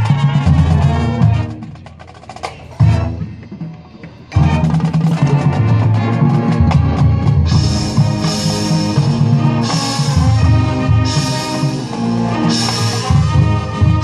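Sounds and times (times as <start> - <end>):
marching band playing chords: 0.0 - 14.0.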